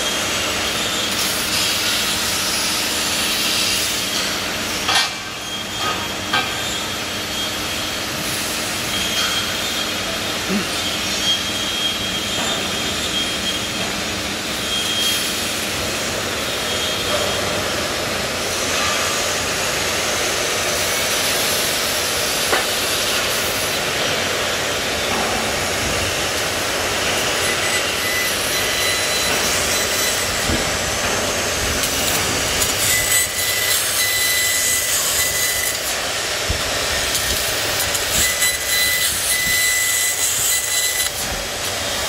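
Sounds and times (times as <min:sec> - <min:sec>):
laser cutter hiss: 0:00.0 - 0:42.0.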